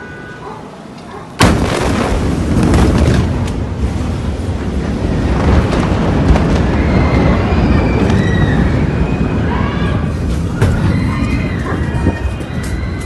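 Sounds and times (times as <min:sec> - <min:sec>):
explosion bang and rumble: 0:01.4 - 0:13.0.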